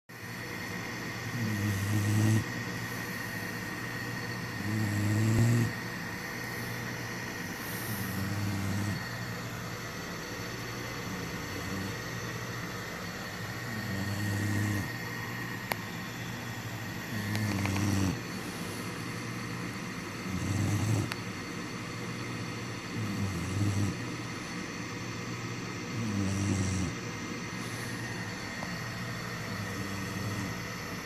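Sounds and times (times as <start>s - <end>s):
puppy snoring: 0.2s - 18.9s, 19.5s - 21.3s, 22.8s - 24.2s, 25.8s - 31.0s.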